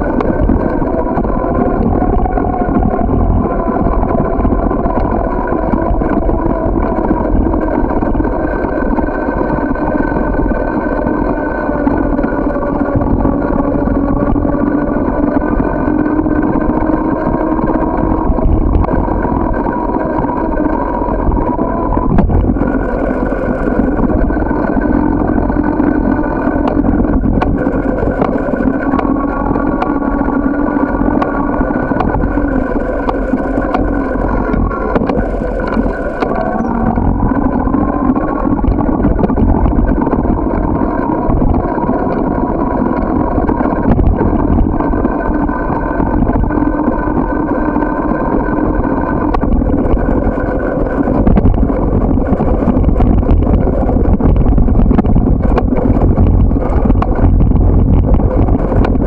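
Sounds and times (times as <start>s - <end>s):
bicycle tyre rumble on pavement: 0.0s - 59.0s
wind buffeting microphone: 0.0s - 59.0s.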